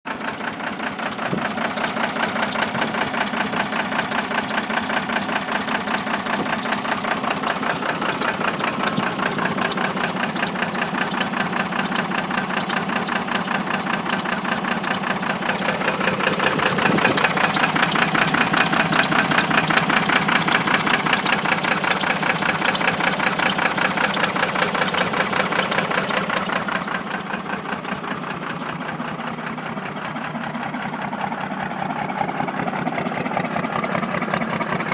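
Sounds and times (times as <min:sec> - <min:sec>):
diesel engine idling with knock: 0:00.1 - 0:34.9.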